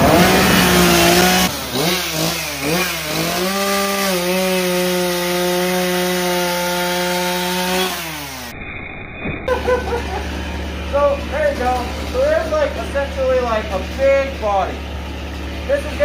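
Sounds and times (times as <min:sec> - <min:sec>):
chainsaw cutting wood: 0:00.0 - 0:08.6, 0:09.5 - 0:16.0.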